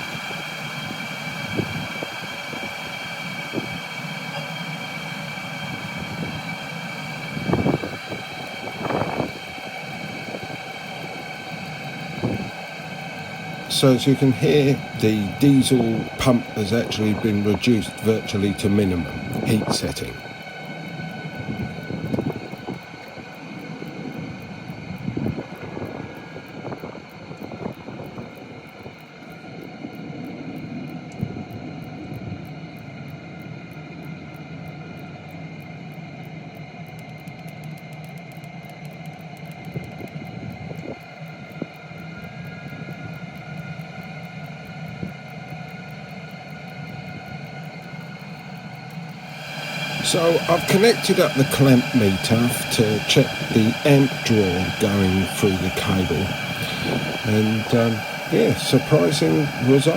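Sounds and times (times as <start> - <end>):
heater fan whirring: 0.0 - 59.9.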